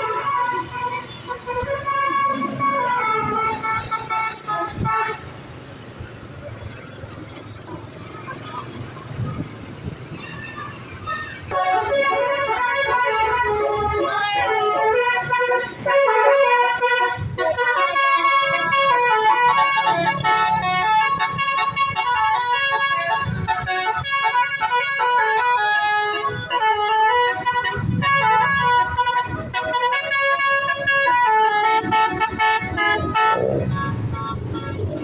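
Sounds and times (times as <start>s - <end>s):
bus air horns playing melody: 0.0s - 5.4s, 11.1s - 35.0s.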